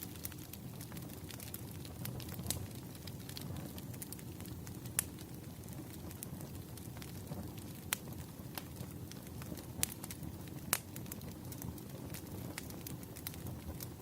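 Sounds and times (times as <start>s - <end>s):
firewood popping: 0.0s - 14.0s
flames rumbling: 0.0s - 14.0s.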